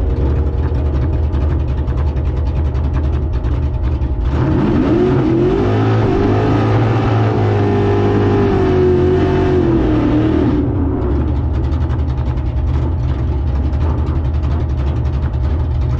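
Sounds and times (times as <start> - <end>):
race car engine accelerating: 0.0 - 15.9.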